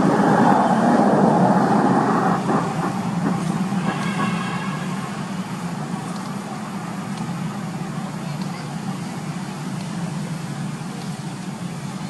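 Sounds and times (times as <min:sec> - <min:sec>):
vehicle engine noise: 0:00.0 - 0:12.0.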